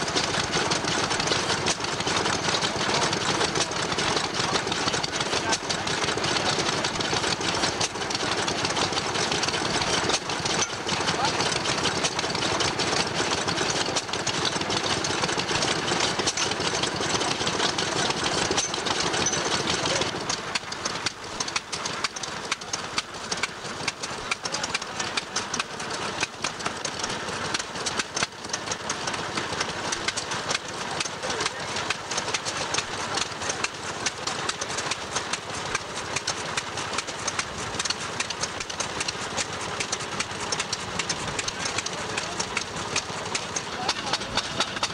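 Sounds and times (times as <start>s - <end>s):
stationary engines clattering: 0.0s - 44.9s.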